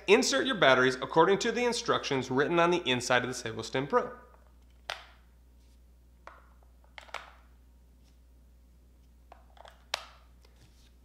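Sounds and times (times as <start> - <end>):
faint room noise: 0.0 - 11.0.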